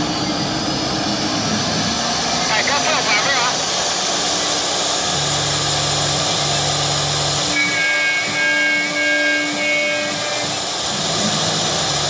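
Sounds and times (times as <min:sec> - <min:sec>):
high whining tones: 0:00.0 - 0:12.0
router steady hiss: 0:02.1 - 0:12.0.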